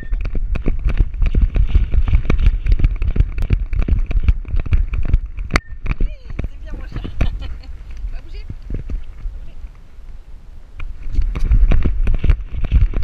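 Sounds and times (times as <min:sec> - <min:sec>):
camera knocks and rattles: 0:00.0 - 0:09.2, 0:10.8 - 0:13.0
low rumble of wind: 0:00.0 - 0:13.0.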